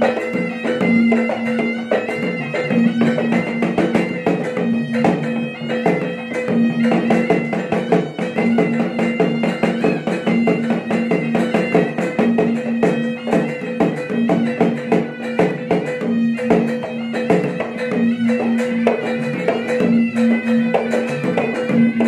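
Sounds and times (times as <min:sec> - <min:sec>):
drums in fast rhythm: 0:00.0 - 0:22.0
shawm melody: 0:00.0 - 0:22.0.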